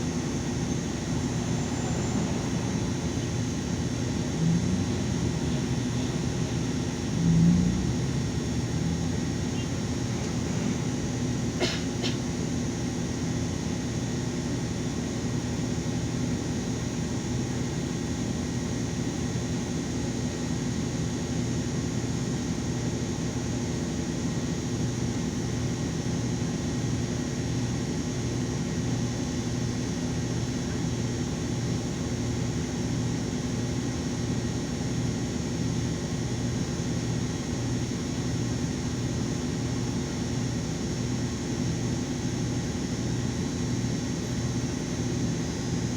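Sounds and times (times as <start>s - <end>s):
bus running noise from inside: 0.0s - 45.9s.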